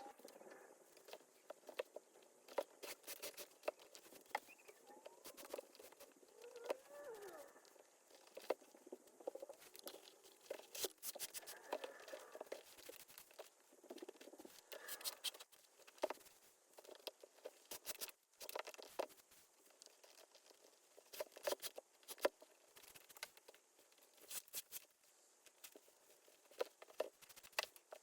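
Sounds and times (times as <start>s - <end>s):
rustling: 0.0s - 28.0s.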